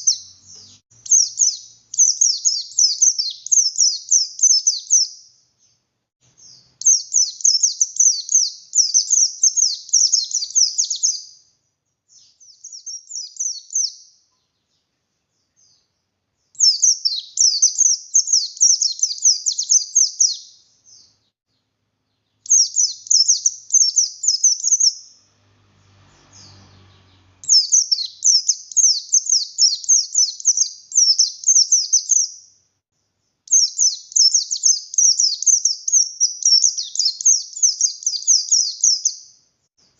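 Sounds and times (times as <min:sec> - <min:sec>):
bird twittering: 0:00.0 - 0:05.8, 0:06.4 - 0:11.4, 0:12.1 - 0:14.5, 0:16.6 - 0:21.2, 0:22.2 - 0:25.2, 0:26.1 - 0:32.4, 0:33.5 - 0:39.3.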